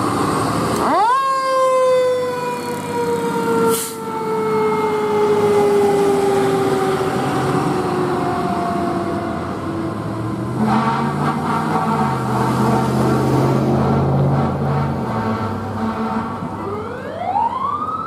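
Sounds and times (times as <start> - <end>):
fire truck siren wailing: 0.0 - 18.0.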